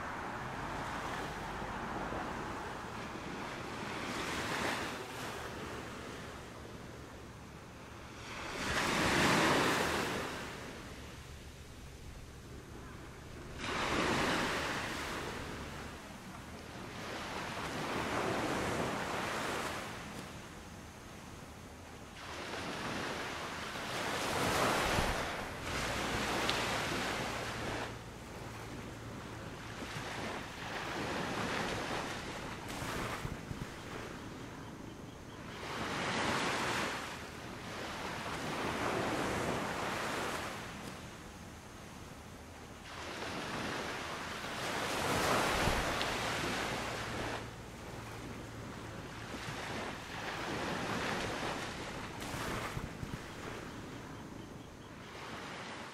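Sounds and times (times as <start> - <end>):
sea waves washing ashore: 0.0 - 55.9.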